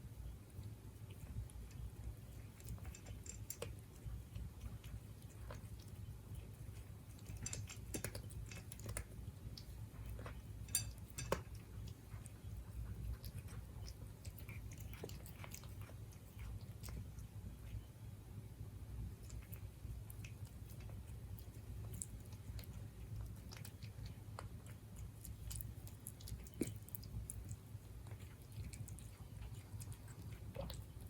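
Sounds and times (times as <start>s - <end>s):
cat chewing food: 0.0s - 31.0s.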